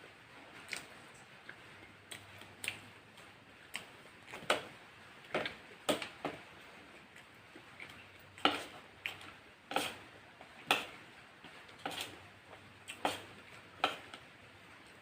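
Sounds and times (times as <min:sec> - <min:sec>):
crunchy eating sounds: 0:00.4 - 0:14.3.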